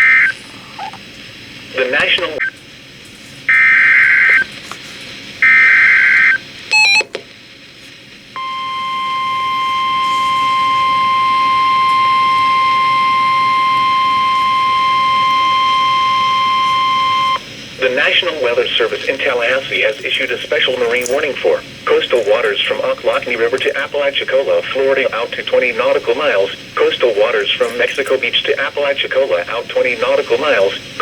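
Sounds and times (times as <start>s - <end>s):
steady warning alarm tone: 3.5s - 4.5s, 5.4s - 7.0s, 8.4s - 31.0s.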